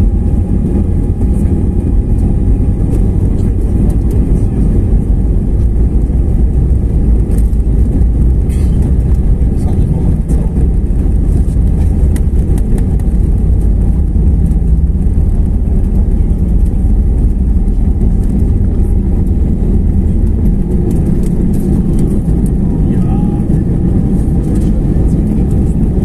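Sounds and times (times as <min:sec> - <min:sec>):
jet engines at takeoff thrust: 0:00.0 - 0:26.0
wheels rumbling on runway: 0:00.0 - 0:26.0.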